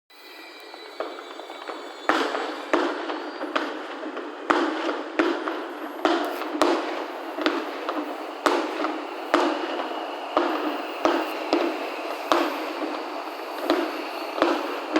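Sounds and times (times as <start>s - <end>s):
fireworks crackling: 0.2s - 14.9s
fireworks shells bursting: 0.2s - 14.9s.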